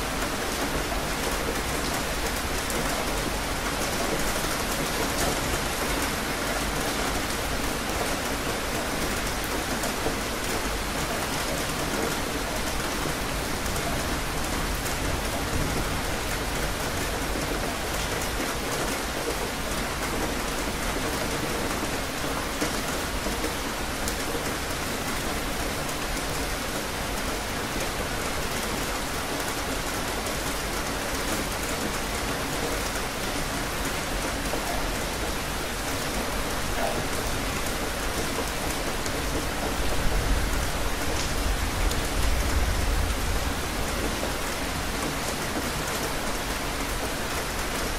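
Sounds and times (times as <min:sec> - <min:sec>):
rain spattering: 0:00.0 - 0:47.9.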